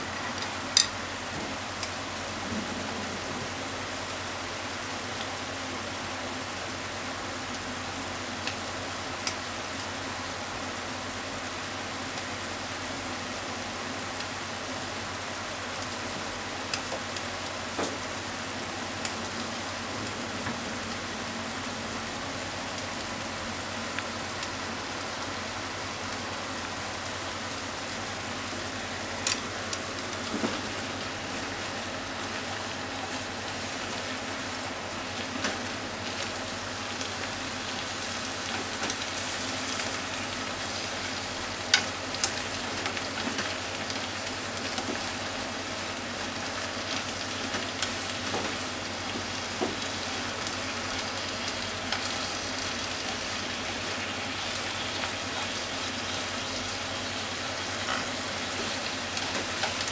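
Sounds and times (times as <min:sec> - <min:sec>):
pork and onions sizzling: 0:00.0 - 0:59.9.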